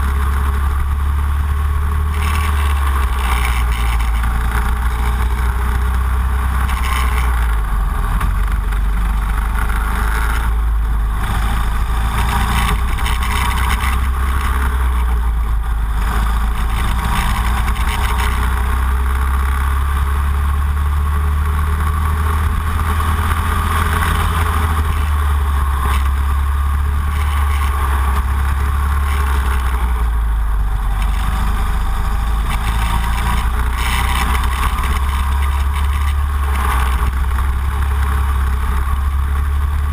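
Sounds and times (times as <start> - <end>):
racing kart engine running: 0.0 - 39.9.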